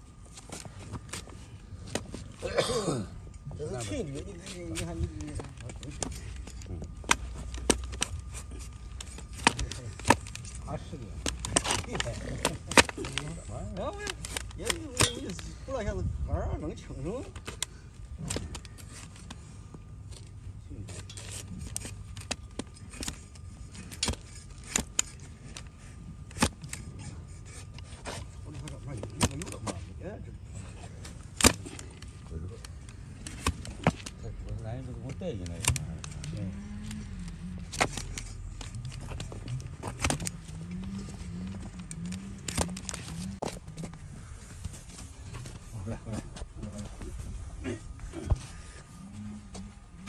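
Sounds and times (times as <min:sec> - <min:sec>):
low wavering hum: 0:00.0 - 0:50.0
blade cutting and scraping hoof: 0:03.4 - 0:15.6, 0:16.7 - 0:45.9.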